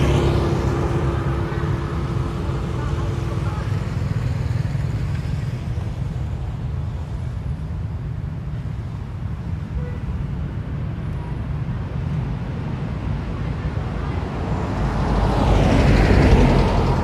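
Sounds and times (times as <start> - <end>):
motorbikes and cars passing: 0.0 - 17.0
road traffic rumble: 0.0 - 17.0.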